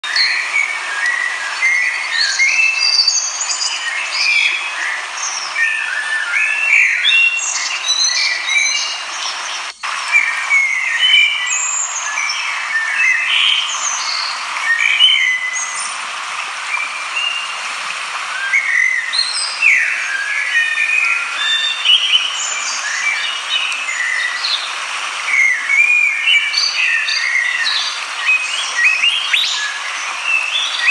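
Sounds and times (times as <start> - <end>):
small birds singing and chirping: 0.0 - 30.9
fast-flowing river rushing: 0.1 - 30.9.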